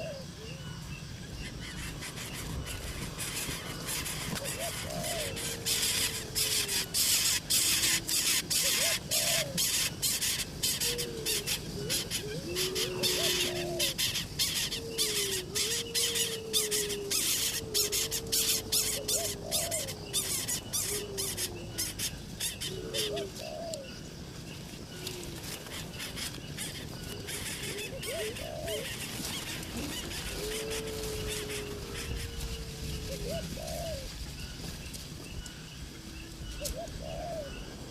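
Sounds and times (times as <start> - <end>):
bird calling: 0.0 - 37.9.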